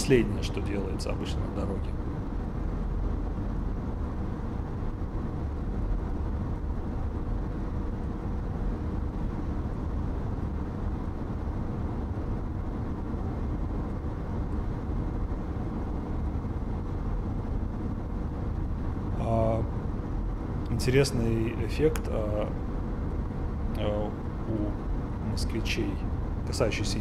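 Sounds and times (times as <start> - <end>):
car interior road and engine noise: 0.0 - 27.0.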